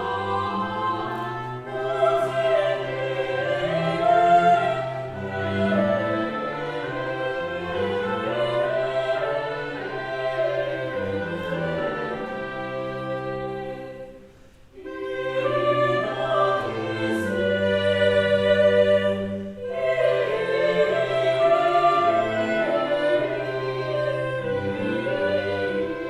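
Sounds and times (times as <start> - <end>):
voices singing long notes: 0.0 - 14.2, 14.8 - 26.0.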